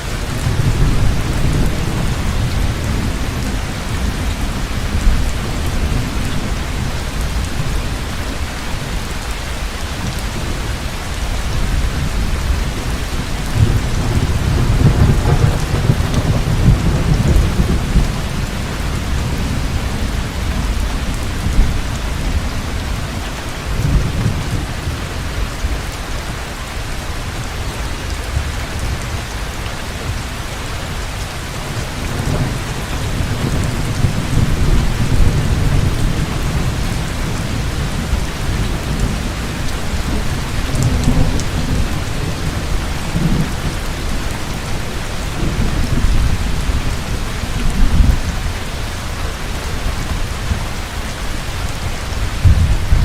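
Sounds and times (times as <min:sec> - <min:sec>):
heavy rain falling: 0:00.0 - 0:53.0
low rolling thunder: 0:00.1 - 0:26.2, 0:31.6 - 0:51.0, 0:51.8 - 0:53.0.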